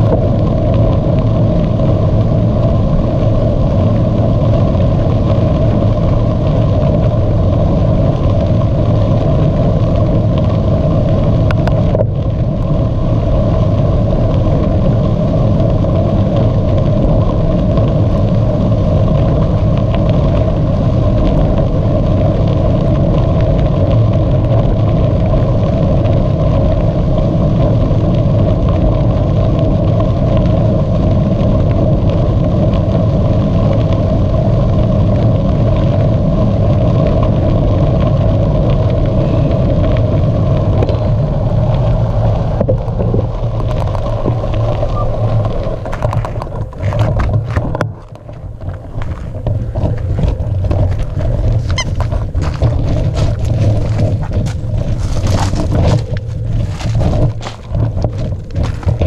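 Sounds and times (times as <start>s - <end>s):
bicycle tyres rolling: 0.0s - 59.0s
wind on microphone: 0.0s - 59.0s.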